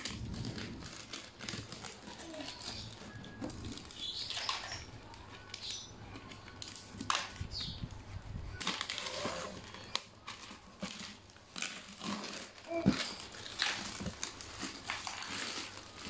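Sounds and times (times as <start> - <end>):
plastic bag crinkling and tearing: 0.0 - 16.0.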